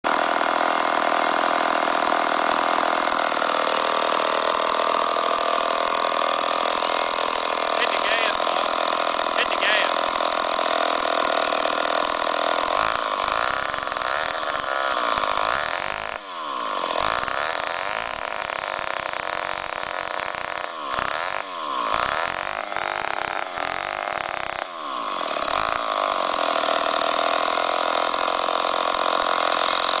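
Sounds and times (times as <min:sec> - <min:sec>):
chainsaw engine revving: 0:00.1 - 0:30.0.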